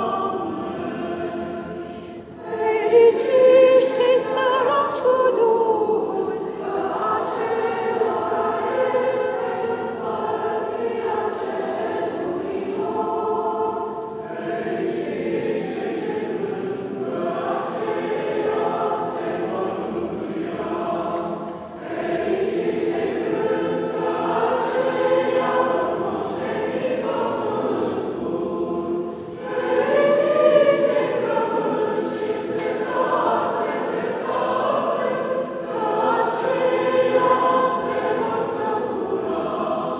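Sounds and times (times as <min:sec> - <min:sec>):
choir singing chant: 0:00.0 - 0:39.9.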